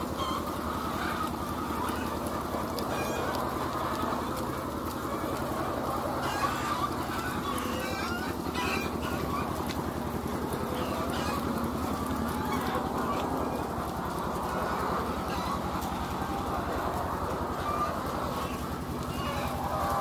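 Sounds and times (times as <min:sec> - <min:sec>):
hens clucking: 0:00.0 - 0:20.0
low mechanical hum: 0:00.0 - 0:20.0.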